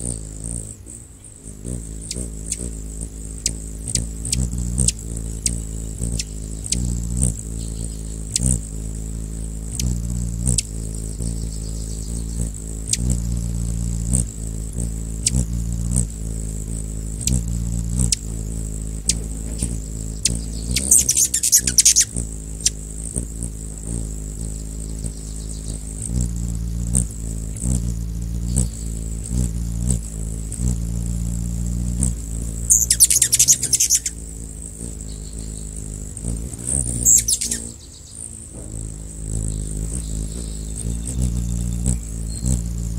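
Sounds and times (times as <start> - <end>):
hummingbird wings humming: 0.0 - 42.9.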